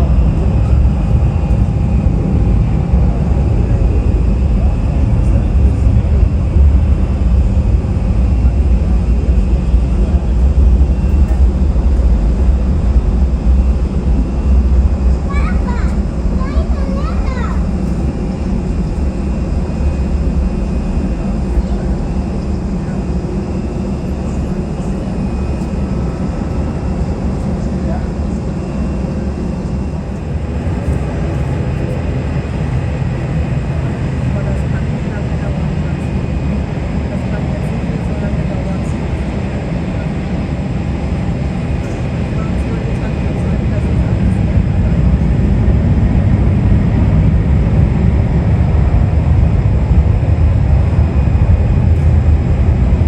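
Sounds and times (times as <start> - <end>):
jet airliner engines rumbling: 0.0 - 53.0.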